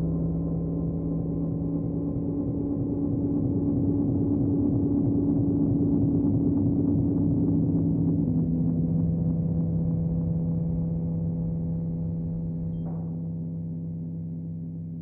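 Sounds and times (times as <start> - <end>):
low droning tones: 0.0 - 15.0.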